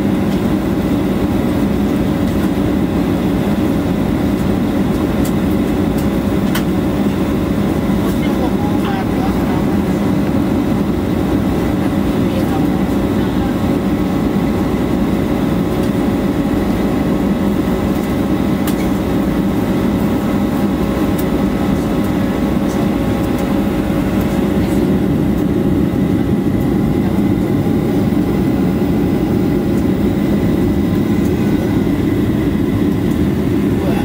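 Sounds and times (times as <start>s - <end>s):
jet engine cabin rush: 0.0s - 34.0s.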